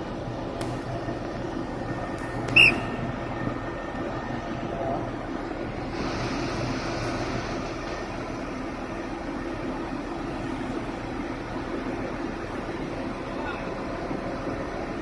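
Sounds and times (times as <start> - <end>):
crane machinery droning: 0.0 - 15.0.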